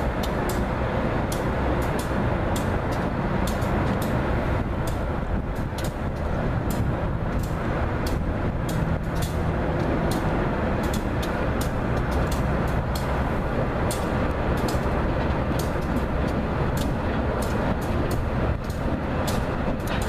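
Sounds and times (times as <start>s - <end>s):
diesel locomotive rumble: 0.0s - 20.0s.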